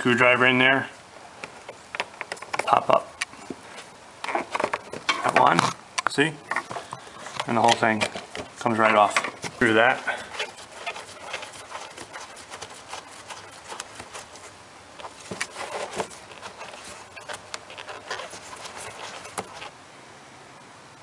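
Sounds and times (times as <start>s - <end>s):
plastic parts clicking and scraping: 1.4s - 19.7s.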